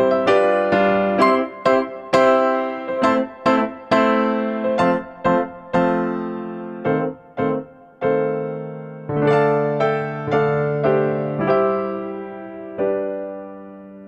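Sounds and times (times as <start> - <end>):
slow keyboard melody: 0.0 - 14.0.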